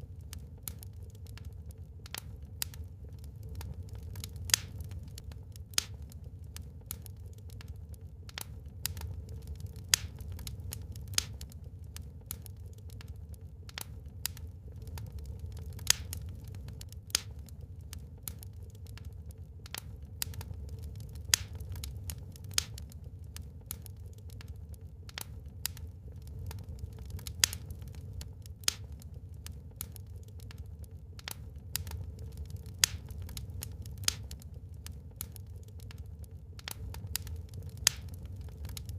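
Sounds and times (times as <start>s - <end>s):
low fire rumble: 0.0s - 38.9s
wood fire crackling and popping: 0.0s - 38.9s.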